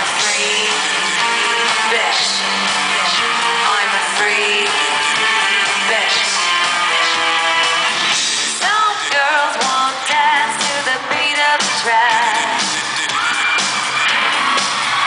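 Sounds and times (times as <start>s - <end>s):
live pop band playing: 0.0s - 15.0s
singing with vibrato: 0.0s - 15.0s.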